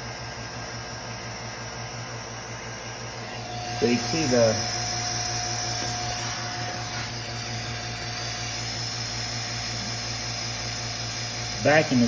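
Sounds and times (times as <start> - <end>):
electric vacuum pump humming: 0.0 - 12.0.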